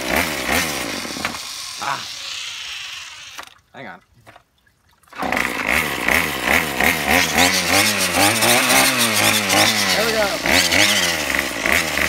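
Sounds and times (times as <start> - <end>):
small outboard motor revving: 0.0 - 3.7, 5.1 - 12.0.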